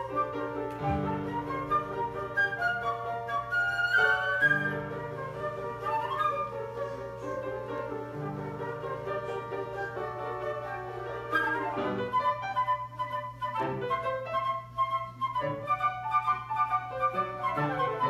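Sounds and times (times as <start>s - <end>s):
piano playing: 0.0s - 18.0s
recorder melody: 0.0s - 18.0s.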